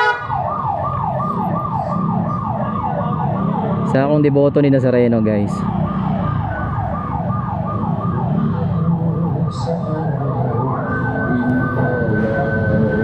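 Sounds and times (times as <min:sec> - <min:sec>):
electronic siren falling wail: 0:00.0 - 0:04.1, 0:05.5 - 0:13.0.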